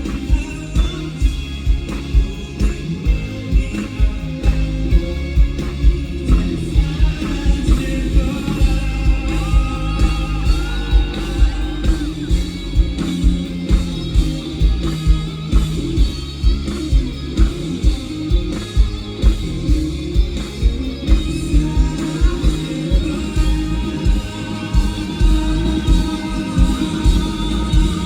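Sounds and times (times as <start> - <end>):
bass guitar: 0.0 - 28.0
electric guitars: 0.0 - 28.0.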